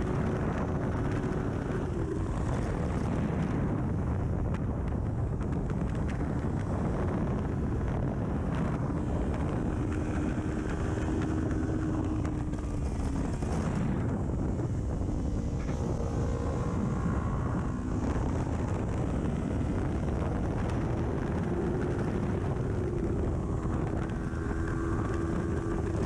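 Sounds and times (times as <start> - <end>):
motorcycle engine at speed: 0.0 - 26.0
wind buffeting microphone: 0.0 - 26.0.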